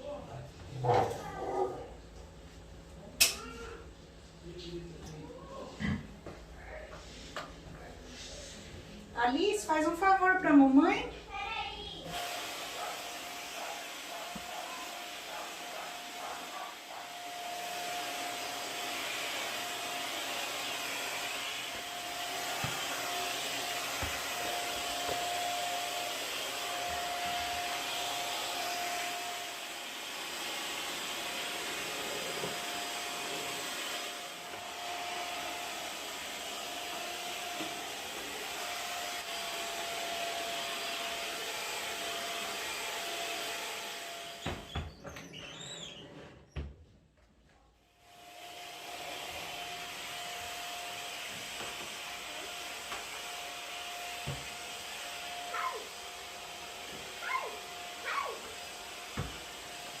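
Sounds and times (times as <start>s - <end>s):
vacuum cleaner running: 7.0s - 46.0s, 48.0s - 60.0s.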